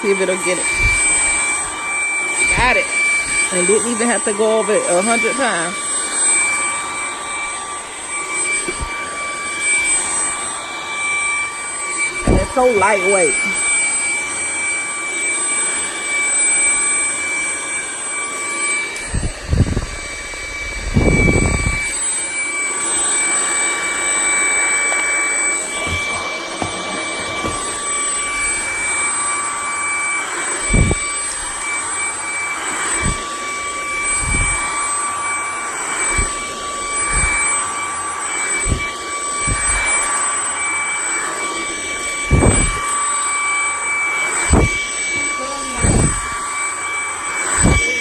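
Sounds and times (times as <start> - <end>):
stick vacuum motor whine: 0.0 - 48.0.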